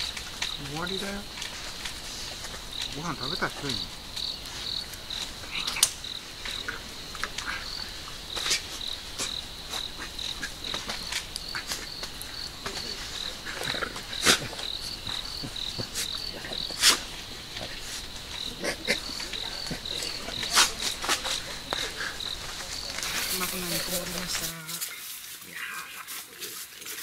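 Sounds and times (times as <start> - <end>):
crickets chirping: 0.0 - 27.0
sharp pops and crackles: 0.0 - 27.0.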